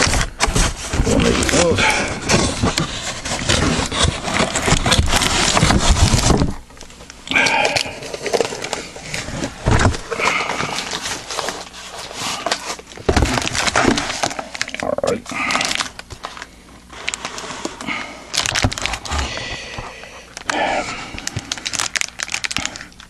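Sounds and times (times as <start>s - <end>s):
cardboard and wrapping rustling: 0.0s - 23.0s.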